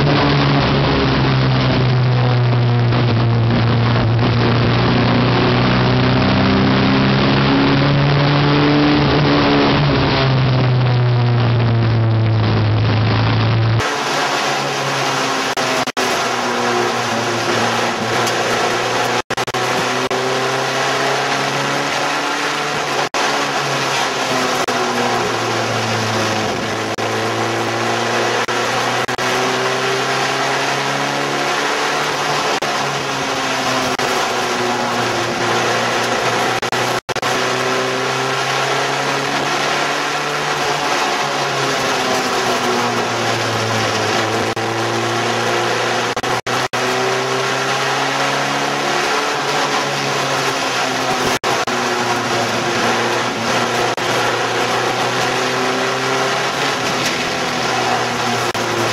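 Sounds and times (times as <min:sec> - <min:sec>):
race car engines: 0:00.0 - 0:58.9.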